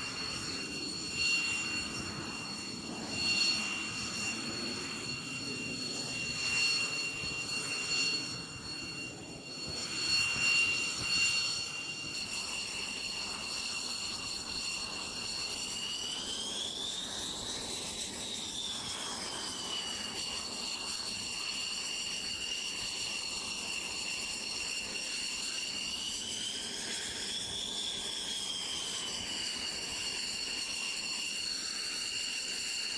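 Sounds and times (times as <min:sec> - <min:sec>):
jet engine turbine whine: 0:00.0 - 0:32.9.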